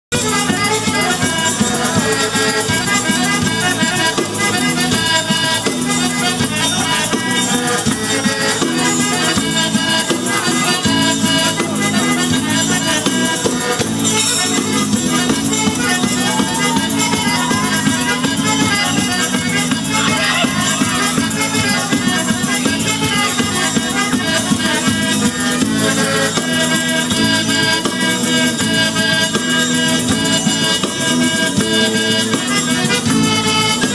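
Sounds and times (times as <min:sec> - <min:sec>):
acoustic guitars: 0:00.1 - 0:33.9
percussion beat: 0:00.1 - 0:33.9.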